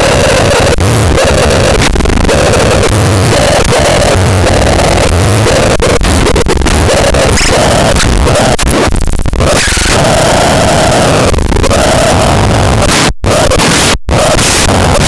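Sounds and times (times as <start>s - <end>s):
harsh distorted droning noise: 0.0s - 15.0s.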